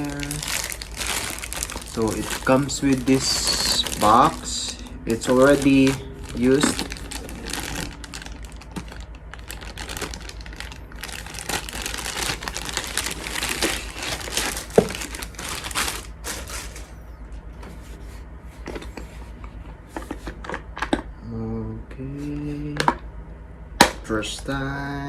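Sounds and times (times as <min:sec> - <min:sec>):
packaging crinkling and rustling: 0:00.0 - 0:17.0, 0:17.6 - 0:21.0.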